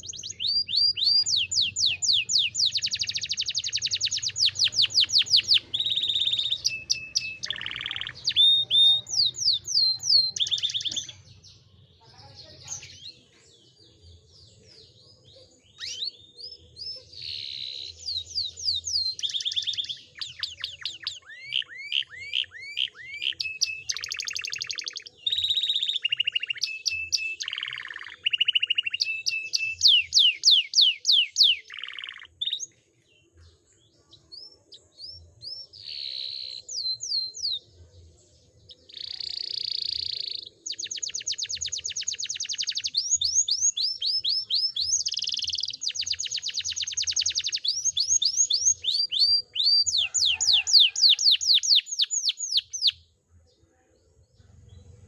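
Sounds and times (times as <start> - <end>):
canary singing: 0.0 - 32.8, 34.1 - 37.7, 38.6 - 53.0.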